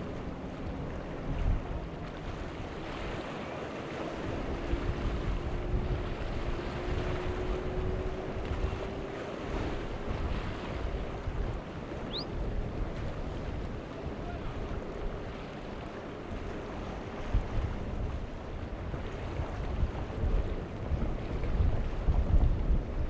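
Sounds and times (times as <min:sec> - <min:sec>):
faint engine drone: 0:00.0 - 0:19.5
choppy water and surf: 0:00.0 - 0:23.0
wind buffeting microphone: 0:00.0 - 0:23.0.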